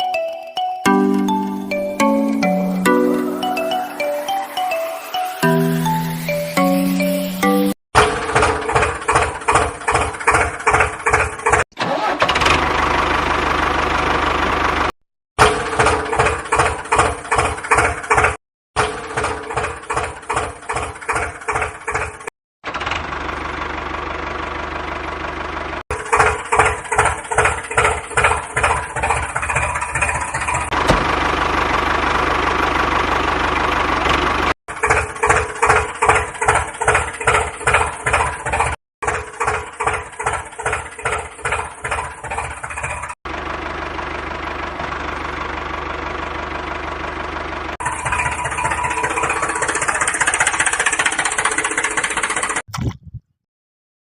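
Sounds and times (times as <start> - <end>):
tractor engine putting: 8.3 - 14.9, 15.7 - 46.5, 47.2 - 53.2.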